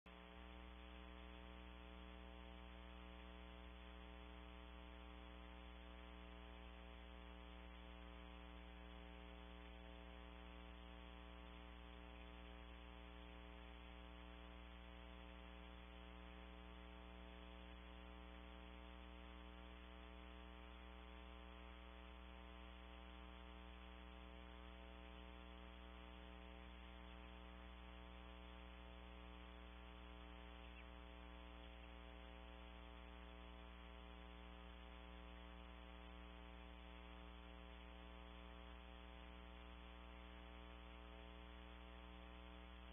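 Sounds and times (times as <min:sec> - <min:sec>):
faint electrical mains hum: 0:00.1 - 0:42.9
light hiss: 0:00.1 - 0:42.9.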